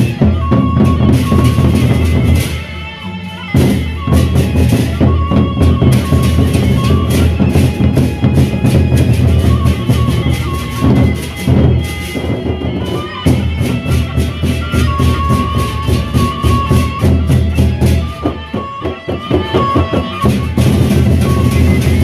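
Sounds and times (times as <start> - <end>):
high melody line: 0.0 - 22.0.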